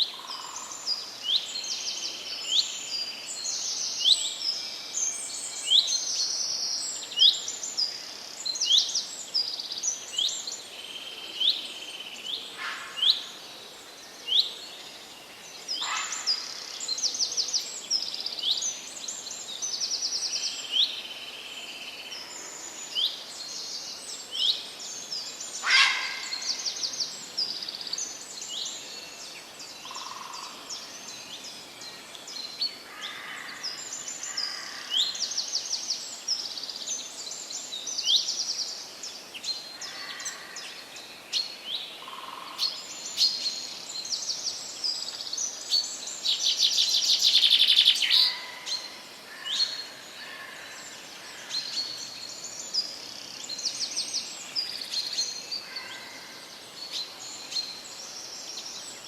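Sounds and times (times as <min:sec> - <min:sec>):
birds singing and calling: 0:00.0 - 0:59.0
faint steady hiss: 0:00.0 - 0:59.0.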